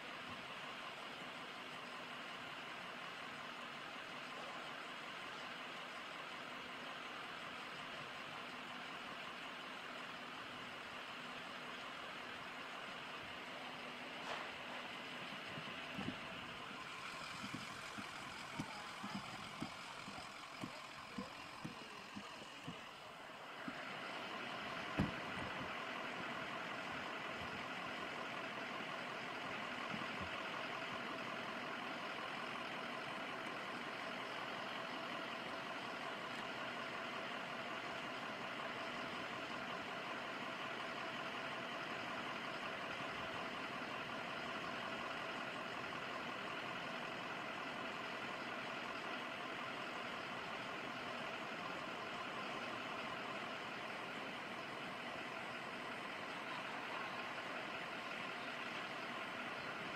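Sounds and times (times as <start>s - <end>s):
engine idling hum: 0.0s - 59.9s.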